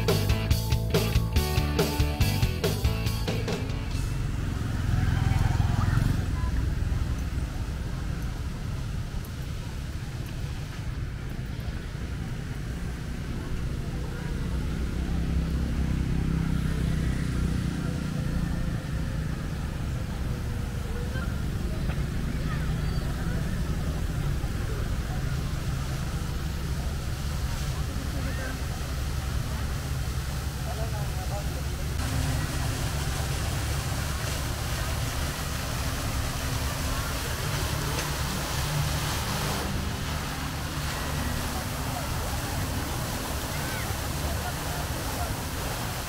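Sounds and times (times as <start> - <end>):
vehicle engines rumbling: 0.0 - 46.0
murmur of voices: 3.3 - 46.0.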